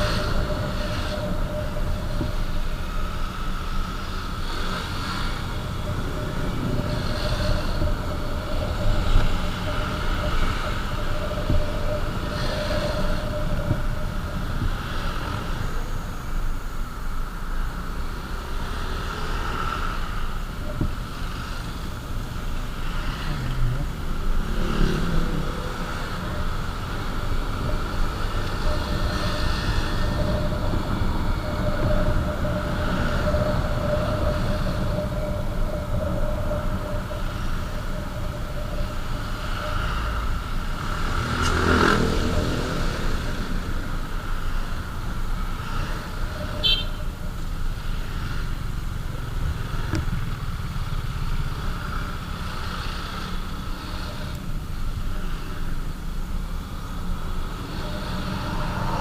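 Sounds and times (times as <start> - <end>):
passing traffic: 0.0 - 59.0
wind and road rumble: 0.0 - 59.0.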